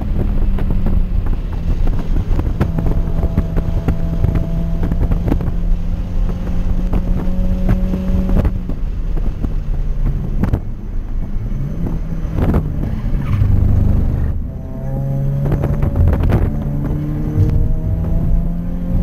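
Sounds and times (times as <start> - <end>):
car engine accelerating: 0.0 - 19.0
road and wind noise: 0.0 - 19.0.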